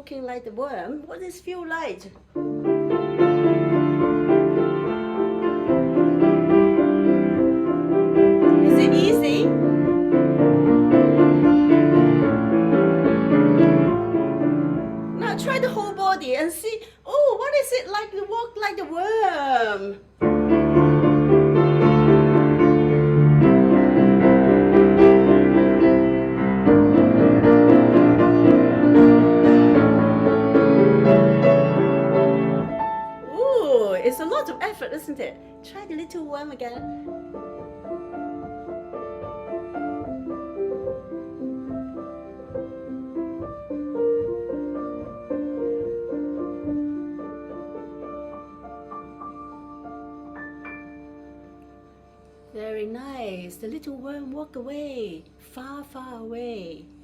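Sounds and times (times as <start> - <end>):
piano music: 2.2 - 16.6, 20.0 - 55.4.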